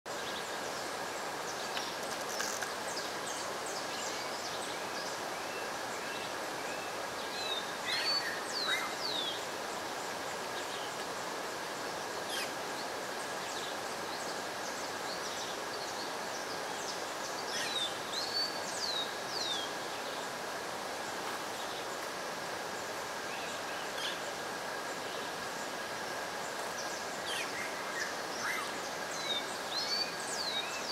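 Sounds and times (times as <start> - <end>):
distant waterfall rushing: 0.1 - 30.9.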